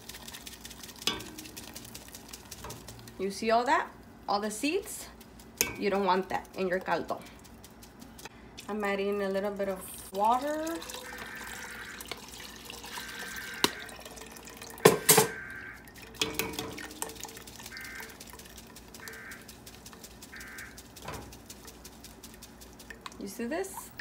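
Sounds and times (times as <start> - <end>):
water splashing through strainer: 0.0 - 3.8, 4.6 - 24.0.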